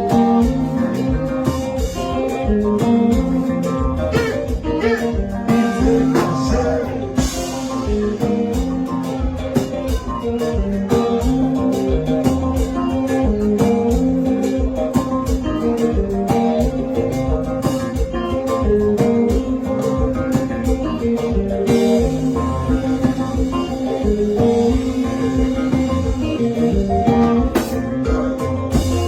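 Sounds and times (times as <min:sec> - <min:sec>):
band music: 0:00.0 - 0:29.0
lead guitar solo: 0:00.0 - 0:29.0.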